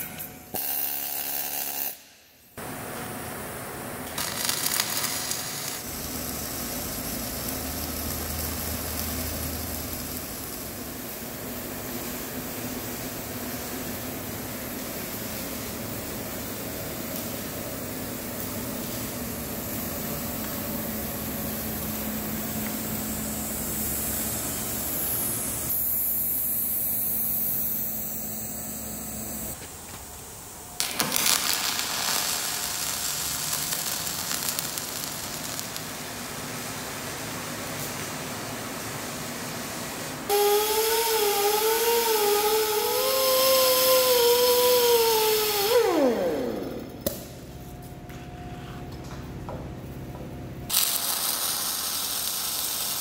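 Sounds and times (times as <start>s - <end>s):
welding arc hiss and crackle: 0.0s - 47.4s, 50.7s - 53.0s.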